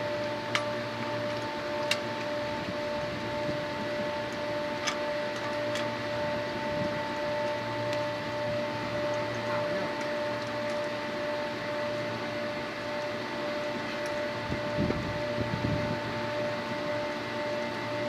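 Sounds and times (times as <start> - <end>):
machinery hum with tones: 0.0 - 18.0.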